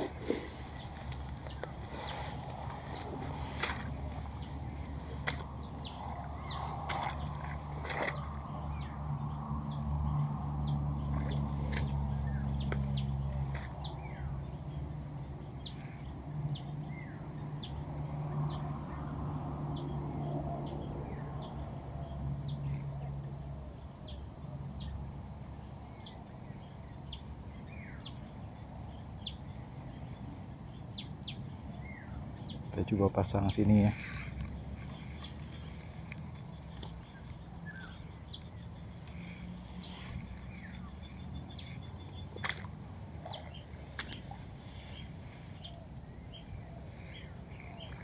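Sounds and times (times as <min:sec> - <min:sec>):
small birds chirping: 0:00.0 - 0:17.8, 0:18.4 - 0:48.0.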